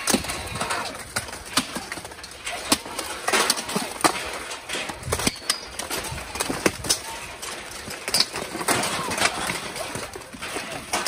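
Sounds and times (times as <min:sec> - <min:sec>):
armor and weapons clanking: 0:00.0 - 0:11.0.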